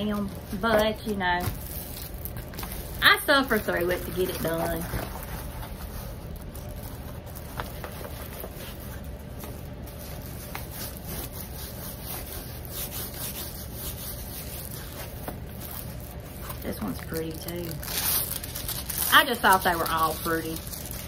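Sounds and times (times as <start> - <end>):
paper backing rubbing and rustling: 0.0 - 21.0
steady low hum: 0.0 - 21.0.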